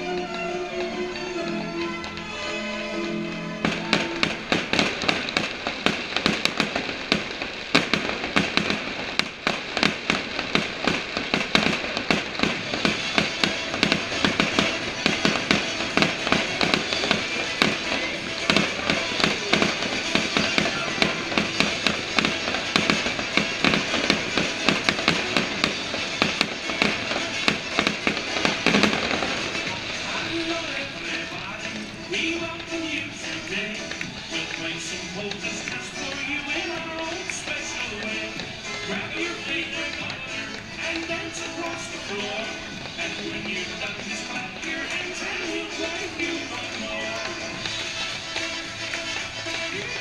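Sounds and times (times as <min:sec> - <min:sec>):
fireworks bangs and crackles: 0:00.0 - 0:50.0
music playing: 0:00.0 - 0:50.0.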